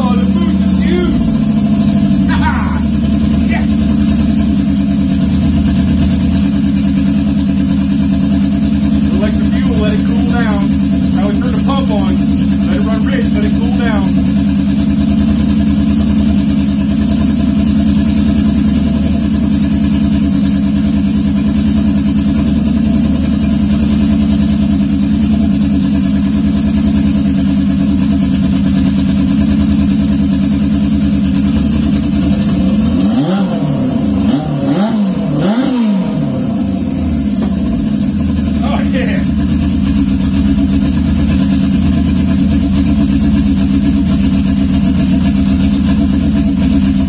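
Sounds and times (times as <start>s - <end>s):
motorcycle engine idling and revving: 0.0s - 47.0s.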